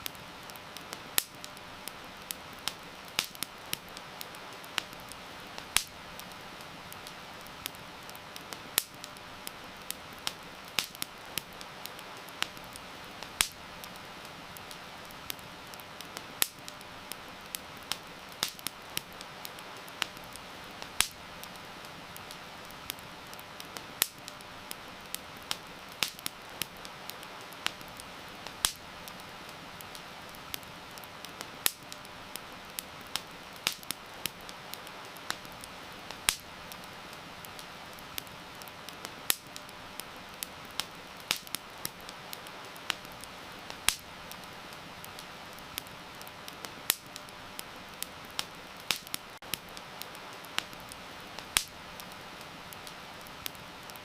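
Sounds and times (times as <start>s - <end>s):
campfire crackling and popping: 0.0s - 54.0s
rain hiss: 0.0s - 54.0s.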